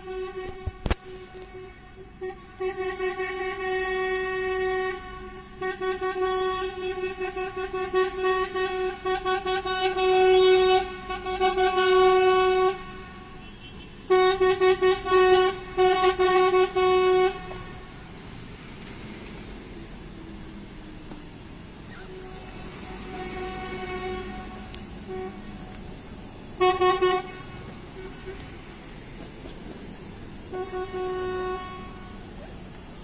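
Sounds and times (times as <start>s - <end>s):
truck air horn honking: 0.0s - 18.1s, 21.8s - 25.8s, 26.4s - 29.2s, 30.4s - 32.6s.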